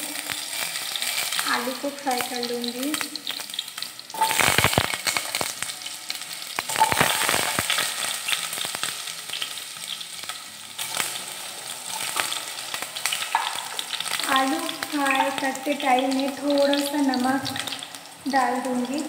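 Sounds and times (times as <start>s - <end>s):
potatoes sizzling in hot oil: 0.0s - 19.0s.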